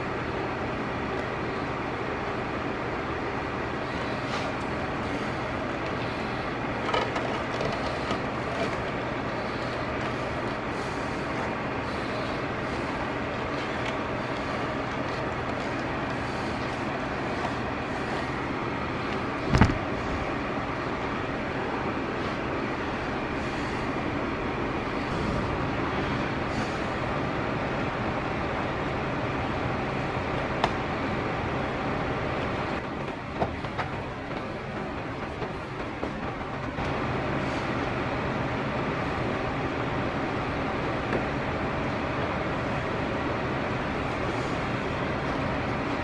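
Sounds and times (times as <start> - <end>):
steady background hum and hiss: 0.0 - 46.0.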